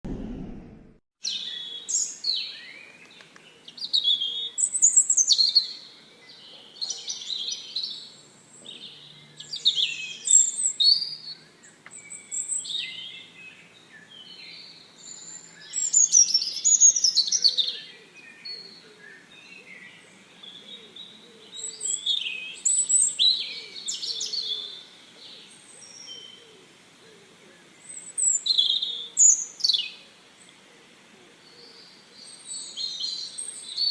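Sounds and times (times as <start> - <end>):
small birds chirping: 1.2 - 33.9.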